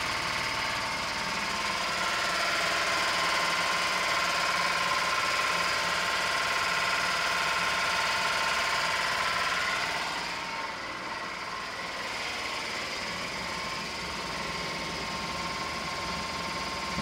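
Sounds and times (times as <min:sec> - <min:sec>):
engine running with mechanical clatter: 0:00.0 - 0:17.0.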